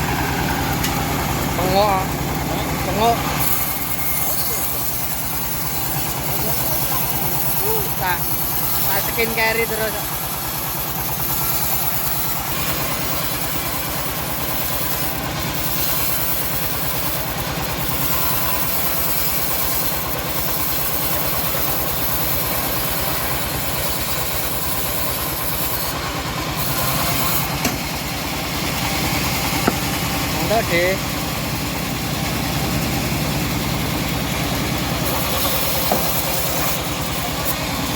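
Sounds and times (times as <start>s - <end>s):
sawmill engine chugging: 0.0s - 37.9s.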